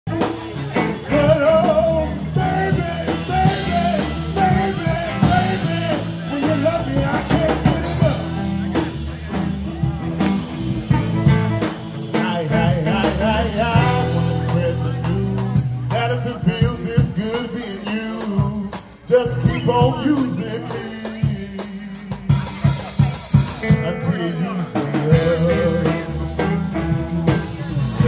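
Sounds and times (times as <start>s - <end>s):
drum kit playing: 0.0s - 28.0s
man singing into a microphone: 0.1s - 10.0s, 10.9s - 28.0s
electric guitar playing: 0.1s - 28.0s.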